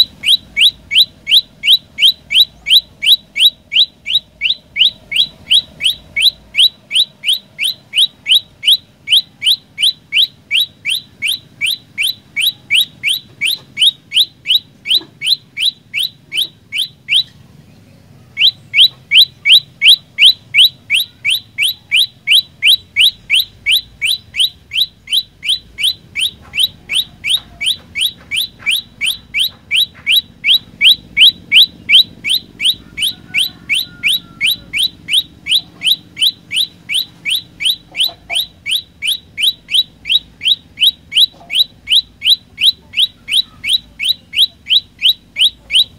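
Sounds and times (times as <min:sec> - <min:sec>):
bird singing high rising notes: 0:00.0 - 0:45.9.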